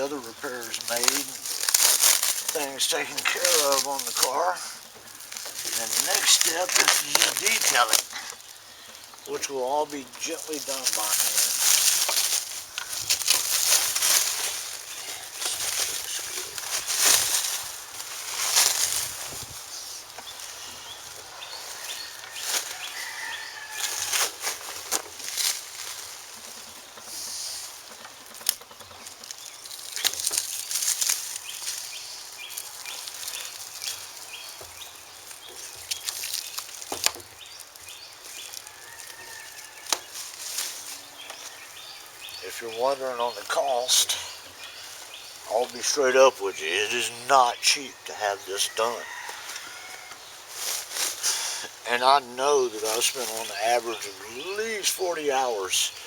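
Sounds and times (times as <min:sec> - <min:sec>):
plastic wrapping rustling: 0:00.0 - 0:56.0.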